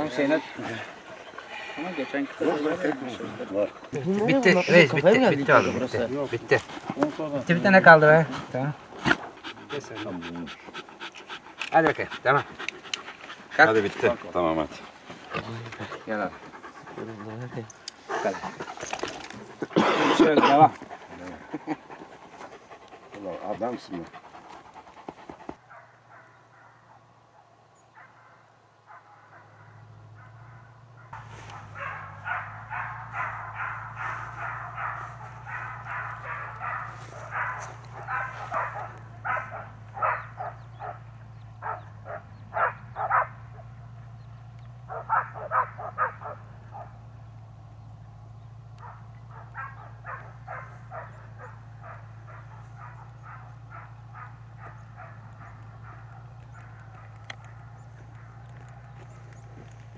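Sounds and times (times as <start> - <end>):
dogs barking: 9.0 - 44.2, 44.8 - 47.3, 48.5 - 59.9.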